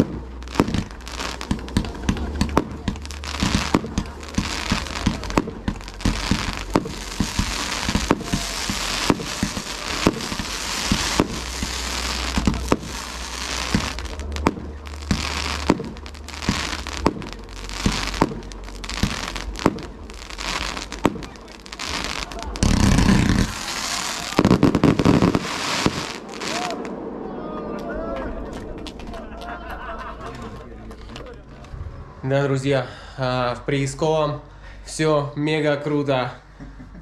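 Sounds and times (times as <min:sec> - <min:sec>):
fireworks crackling: 0:00.0 - 0:31.8
fireworks bangs: 0:00.0 - 0:32.1.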